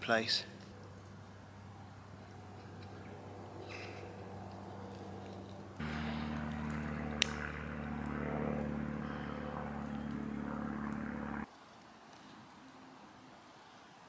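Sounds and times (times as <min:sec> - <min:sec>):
propeller aircraft droning: 0:00.0 - 0:11.5.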